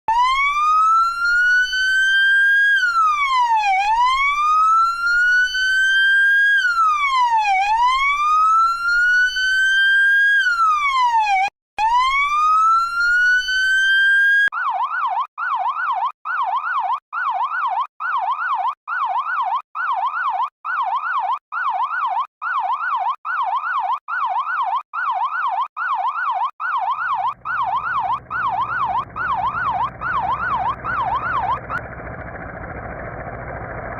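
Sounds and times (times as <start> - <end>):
emergency vehicle siren wailing: 0.1 - 33.9.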